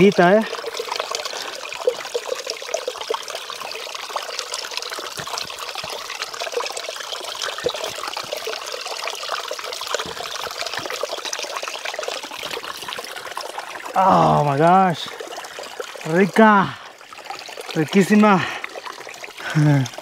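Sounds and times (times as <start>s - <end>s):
creek trickling over rocks: 0.0s - 20.0s.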